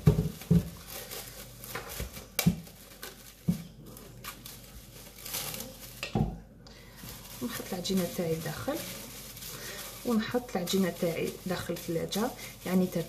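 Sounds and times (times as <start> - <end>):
cling film crinkling: 0.0 - 6.0, 6.8 - 13.0.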